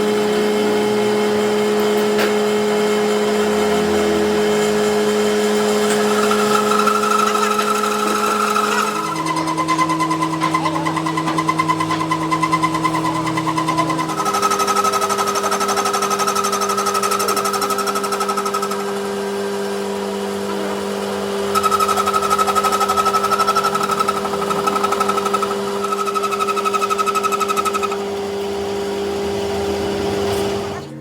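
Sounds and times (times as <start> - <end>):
power tool hammering rapidly: 0.0 - 30.8.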